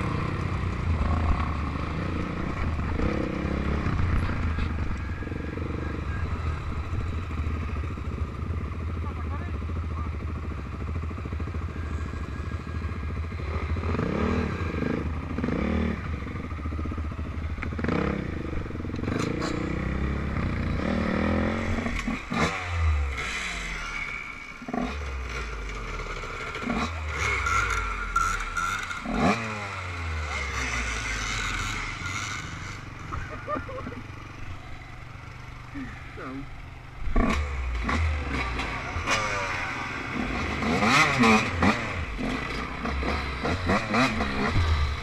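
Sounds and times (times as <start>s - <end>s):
off-road engine revving: 0.0s - 35.0s, 35.7s - 45.0s.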